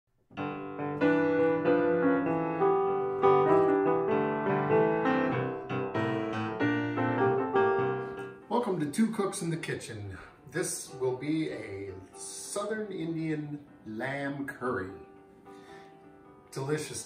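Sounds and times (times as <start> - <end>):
piano tune over chords: 0.3 - 17.0.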